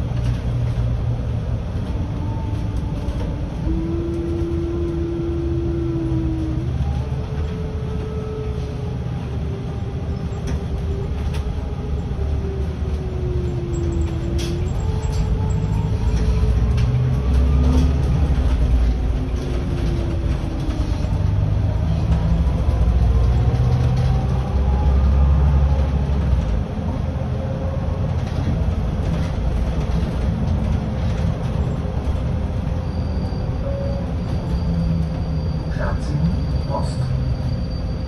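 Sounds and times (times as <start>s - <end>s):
bus engine rumble: 0.0s - 38.0s.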